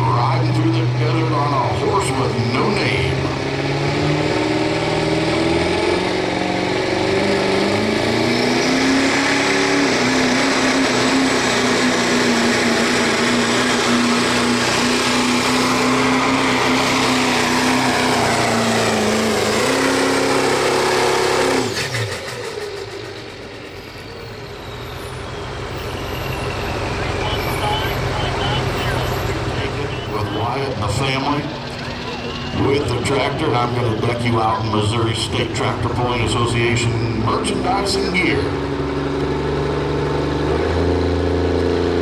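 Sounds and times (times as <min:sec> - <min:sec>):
diesel pickup engine at full throttle: 0:00.0 - 0:42.0.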